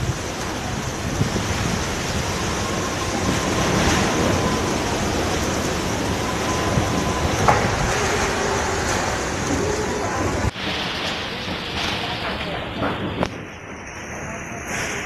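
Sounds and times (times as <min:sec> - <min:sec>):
strong storm wind rushing: 0:00.0 - 0:13.8.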